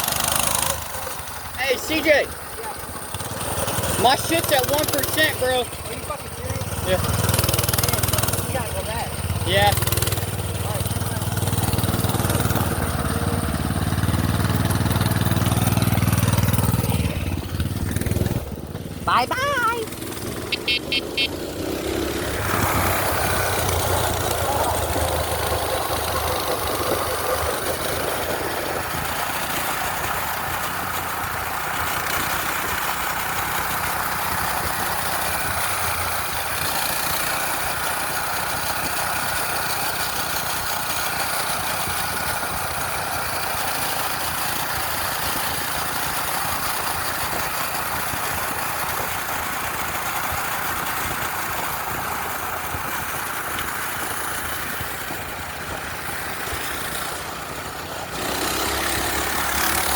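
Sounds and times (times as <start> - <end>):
riding noise hiss: 0.0 - 59.9
small gas engine running: 0.0 - 59.9.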